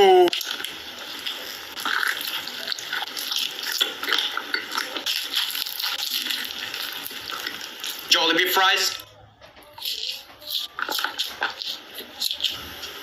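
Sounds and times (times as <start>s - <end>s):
wet chewing with crisp crackles: 0.2s - 8.1s, 8.9s - 13.0s.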